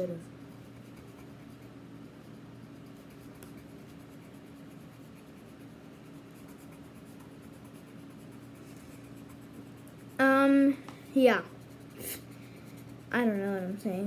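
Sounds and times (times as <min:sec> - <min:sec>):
colored pencil scratching on paper: 0:00.0 - 0:14.0
faint steady hum: 0:00.0 - 0:14.0.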